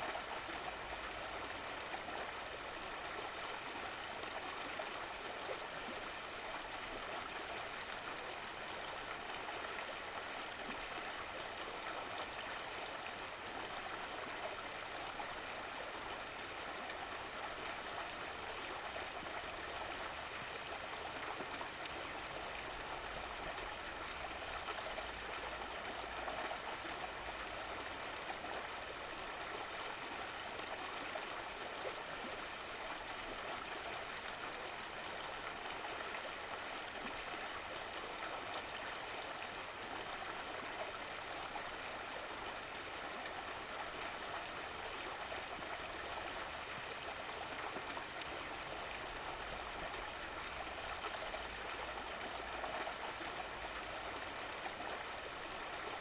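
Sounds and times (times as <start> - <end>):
stream flowing and trickling: 0.0 - 56.0.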